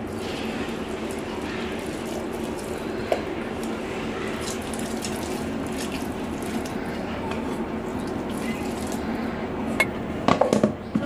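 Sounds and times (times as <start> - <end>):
low background hum: 0.0 - 11.0
wet squelches of food handled: 0.1 - 9.8.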